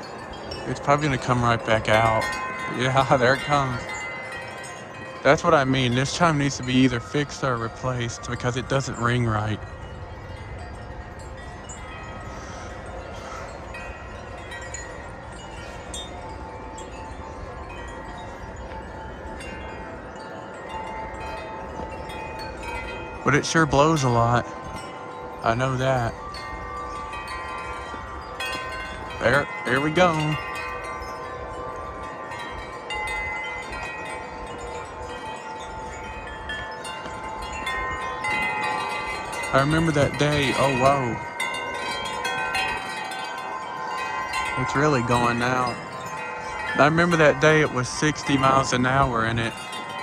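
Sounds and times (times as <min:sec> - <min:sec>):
low wind rumble: 0:00.0 - 0:50.0
wind chimes ringing: 0:00.0 - 0:50.0.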